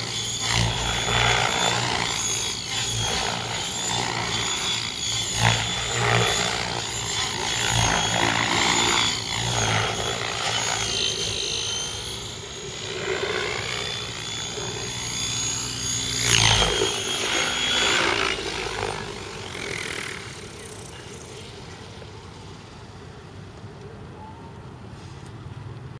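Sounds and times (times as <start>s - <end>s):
rotor blade noise: 0.0s - 23.6s
rc helicopter motor whine: 0.0s - 24.1s.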